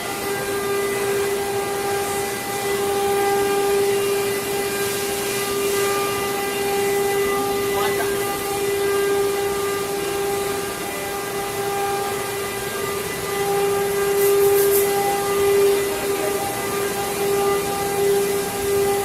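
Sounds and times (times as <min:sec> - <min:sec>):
hissy bursts: 0:00.0 - 0:19.0
rushing noise of wood cutting: 0:00.0 - 0:19.0
spindle motor whining: 0:00.0 - 0:19.0.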